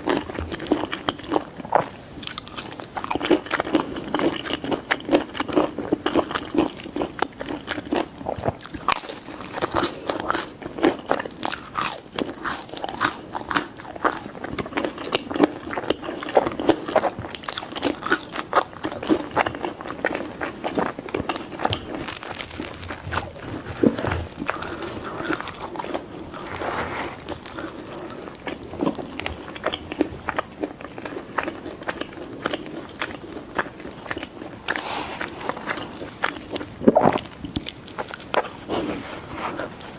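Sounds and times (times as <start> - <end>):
biting and chewing pizza: 0.0 - 39.9.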